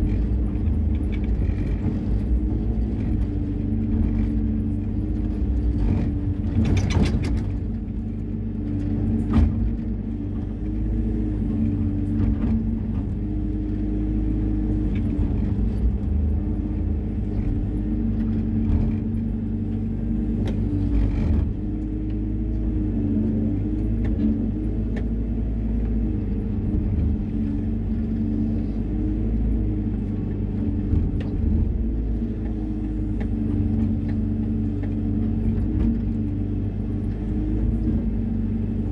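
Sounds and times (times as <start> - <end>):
diesel engine under hydraulic load: 0.0 - 38.9.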